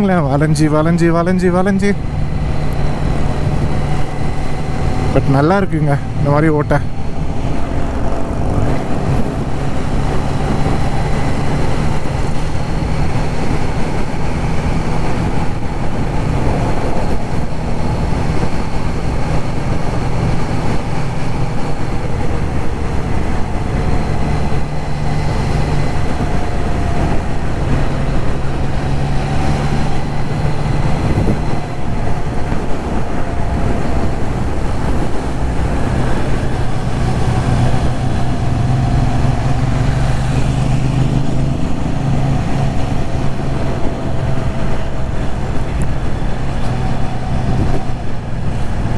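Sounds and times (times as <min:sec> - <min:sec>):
motorcycle engine running: 0:00.0 - 0:48.9
road noise: 0:00.0 - 0:48.9
wind noise on microphone: 0:00.0 - 0:48.9.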